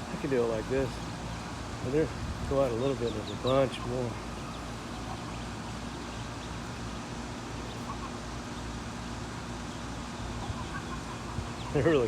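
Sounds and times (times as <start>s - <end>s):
ducklings peeping: 0.0s - 12.0s
low mechanical hum: 0.0s - 12.0s.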